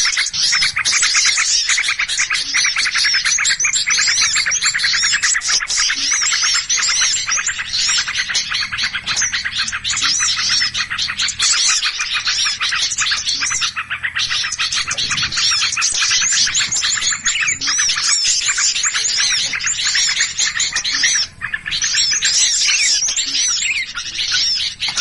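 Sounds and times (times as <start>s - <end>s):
small birds chirping: 0.0s - 25.0s
whistled bird notes: 0.0s - 25.0s.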